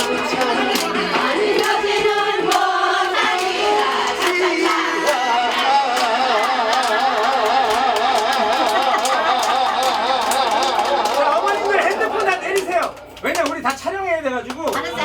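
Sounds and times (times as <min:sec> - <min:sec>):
person singing with vibrato: 0:00.0 - 0:12.2
backing track with steady beat: 0:00.0 - 0:13.8.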